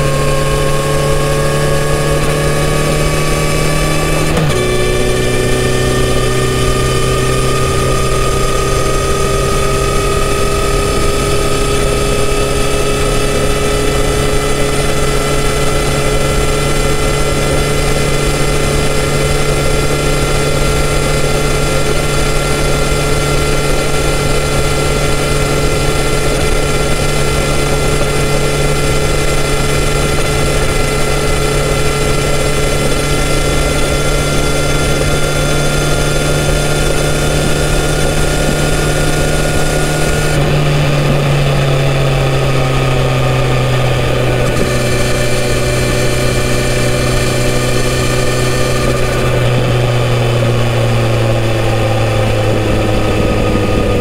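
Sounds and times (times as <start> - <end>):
motorcycle engine accelerating: 0.0 - 54.0
road noise: 0.0 - 54.0
wind noise: 0.0 - 54.0.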